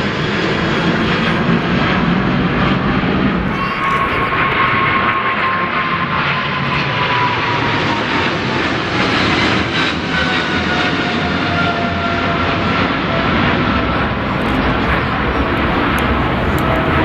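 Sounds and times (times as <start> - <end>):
high jet whine falling in pitch: 0.0 - 17.0
jet engines roaring: 0.0 - 17.0.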